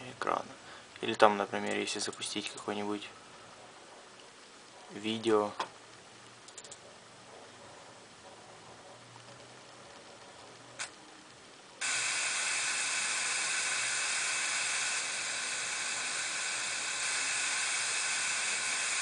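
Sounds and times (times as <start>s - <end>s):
loud steady white noise hiss: 0.0s - 19.0s.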